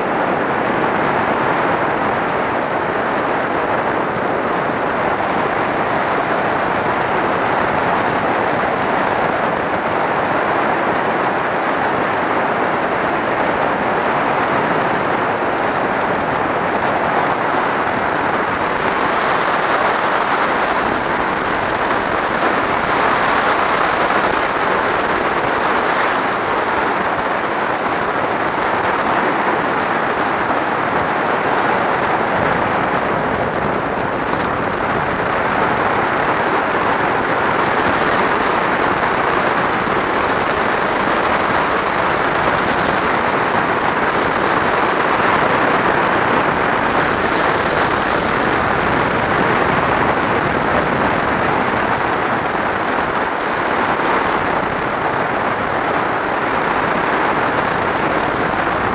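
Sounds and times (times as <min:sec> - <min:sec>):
motorcycle road noise: 0:00.0 - 0:58.9
wind rush: 0:00.0 - 0:58.9.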